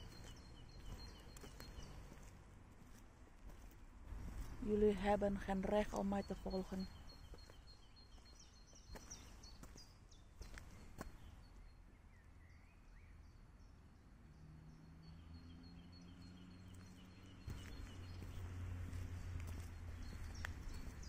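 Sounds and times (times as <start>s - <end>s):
distant bird chirps: 0.0s - 2.9s, 4.4s - 21.0s.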